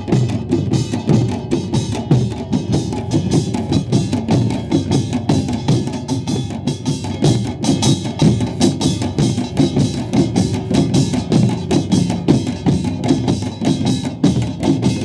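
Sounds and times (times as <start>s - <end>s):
barrel drums: 0.0s - 15.0s.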